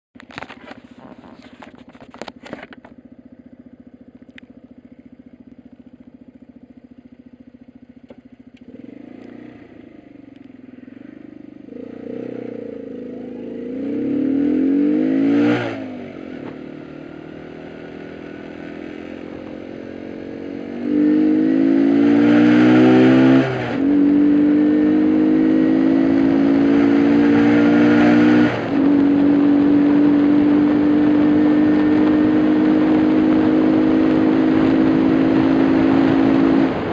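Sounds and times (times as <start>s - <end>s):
motorbike engine accelerating: 0.2s - 36.9s.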